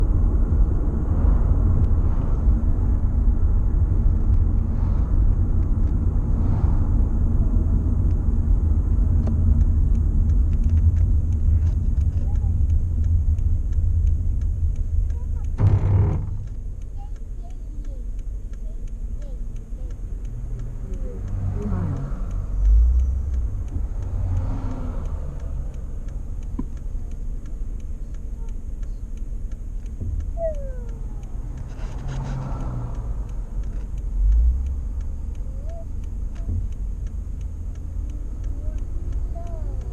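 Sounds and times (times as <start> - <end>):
car road noise rumble: 0.0 - 39.9
faint ticking: 0.0 - 39.9.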